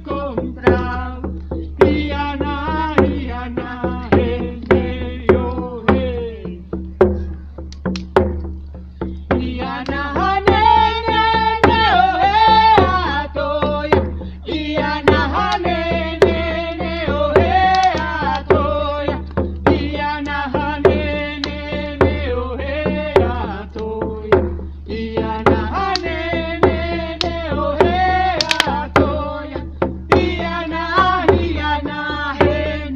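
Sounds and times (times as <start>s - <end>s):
chant singing: 0.0s - 6.7s, 9.3s - 32.9s
drum beat: 0.0s - 32.9s.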